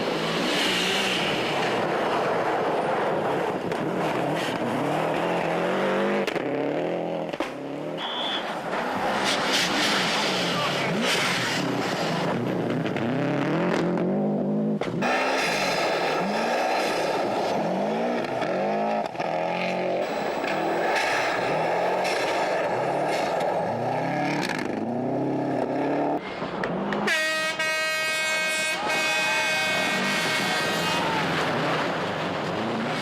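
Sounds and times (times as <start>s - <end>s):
rally car engine revving: 0.0s - 27.1s, 29.1s - 33.0s.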